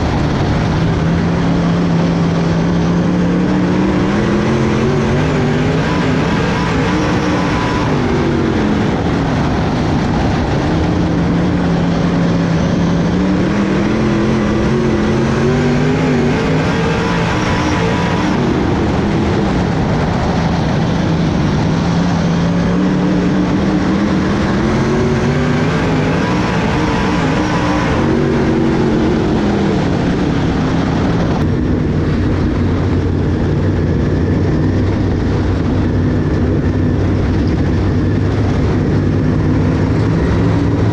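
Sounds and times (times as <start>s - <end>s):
race car engine accelerating: 0.0s - 40.9s.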